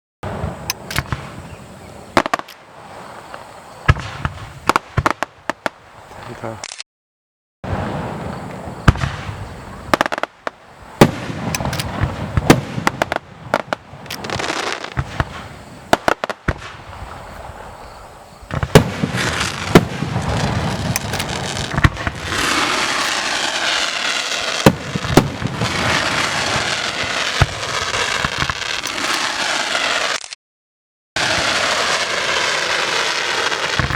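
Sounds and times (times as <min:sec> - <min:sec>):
fireworks bursting: 0:00.2 - 0:06.6, 0:07.7 - 0:30.3, 0:31.2 - 0:33.9
fireworks crackling: 0:00.2 - 0:06.6, 0:07.7 - 0:30.3, 0:31.2 - 0:33.9.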